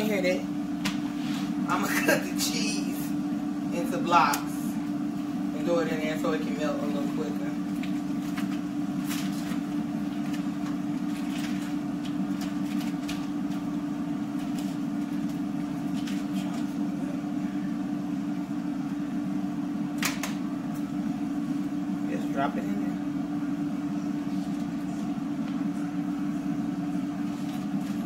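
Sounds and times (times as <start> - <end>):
appliance motor hum: 0.0 - 28.0.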